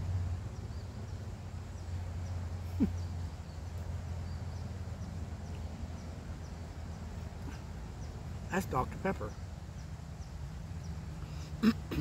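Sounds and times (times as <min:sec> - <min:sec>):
faint bird chirps: 0:00.5 - 0:12.0.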